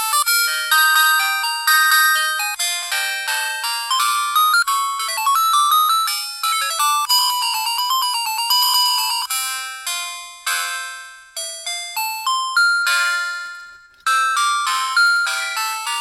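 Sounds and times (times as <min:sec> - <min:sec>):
polyphonic phone ringtone: 0:00.0 - 0:16.0.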